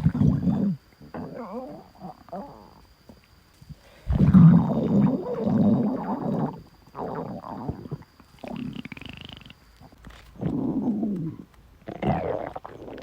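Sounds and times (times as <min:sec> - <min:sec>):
stomach growling: 0:00.0 - 0:13.0.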